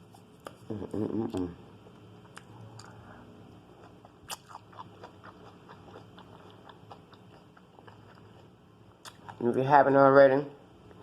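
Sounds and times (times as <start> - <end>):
quiet chewing: 0.0 - 9.4.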